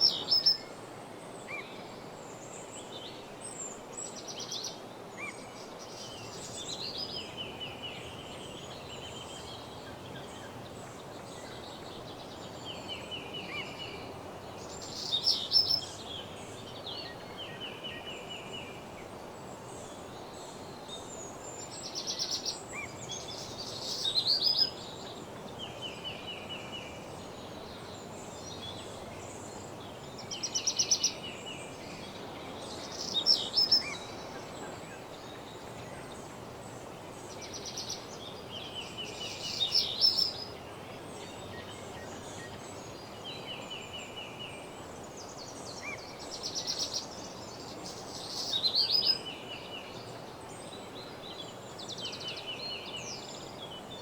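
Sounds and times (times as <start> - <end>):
background hiss: 0.0 - 54.0
songbirds singing: 0.0 - 54.0.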